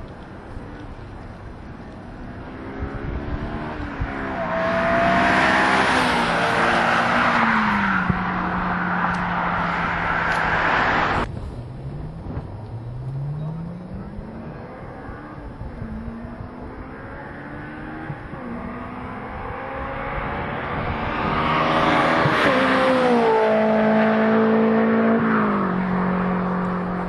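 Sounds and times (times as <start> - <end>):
car engine revving: 2.1 - 27.0.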